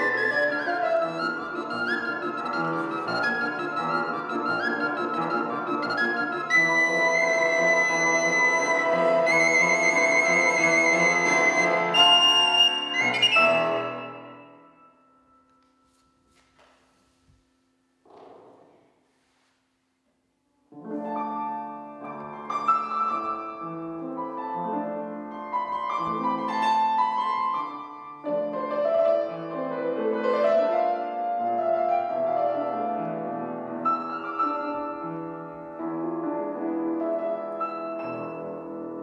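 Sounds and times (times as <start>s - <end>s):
grand piano playing: 0.0s - 18.0s, 20.7s - 39.0s.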